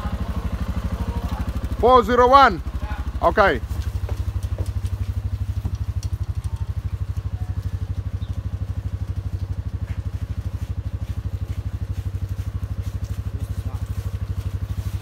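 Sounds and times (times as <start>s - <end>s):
farm vehicle engine idling: 0.0s - 15.0s.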